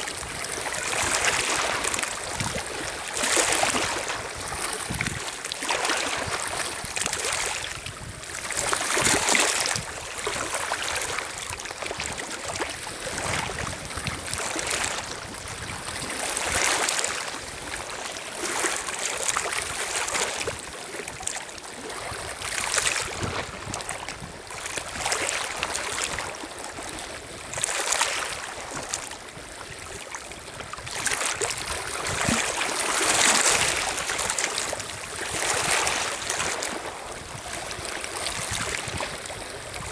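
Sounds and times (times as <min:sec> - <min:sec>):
waves lapping on stony shore: 0:00.0 - 0:39.9.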